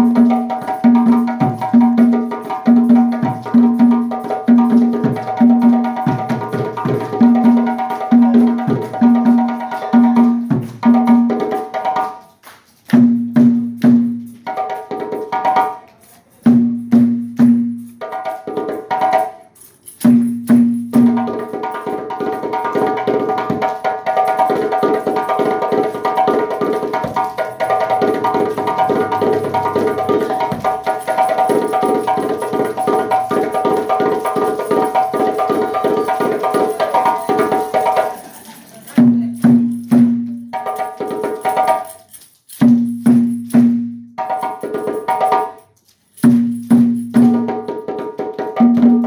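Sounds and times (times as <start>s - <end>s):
fast percussion rhythm: 0.0s - 49.0s.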